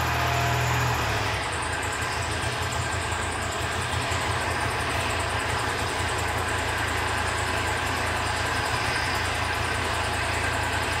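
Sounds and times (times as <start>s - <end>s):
forklift diesel engine running: 0.0s - 11.0s.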